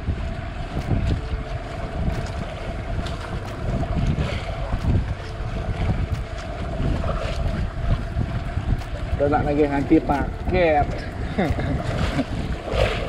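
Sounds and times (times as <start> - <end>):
boat engine humming: 0.0 - 13.0
water splashing: 0.0 - 13.0
wind buffeting microphone: 0.0 - 13.0.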